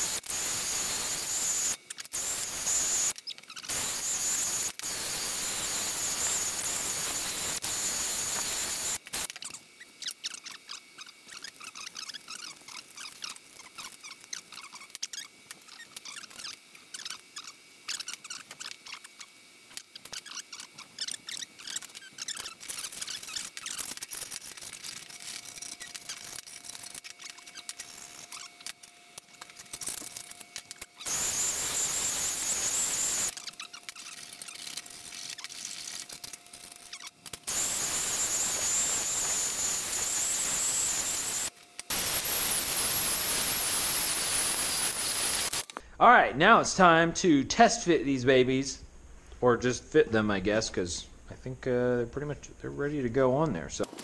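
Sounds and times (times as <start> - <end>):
drill grinding metal edge: 0.0 - 45.7.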